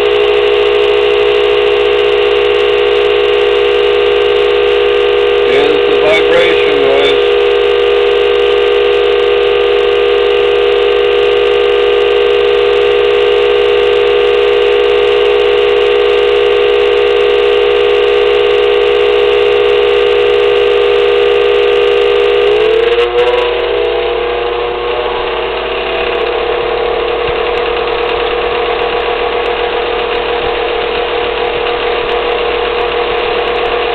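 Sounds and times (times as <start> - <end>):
blower motor humming whine: 0.0 - 33.9.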